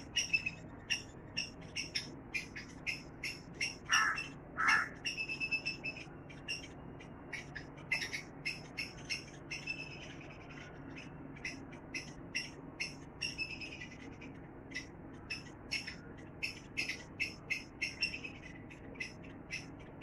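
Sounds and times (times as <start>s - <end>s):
faint low hum: 0.0s - 20.0s
small birds chirping: 0.0s - 20.0s.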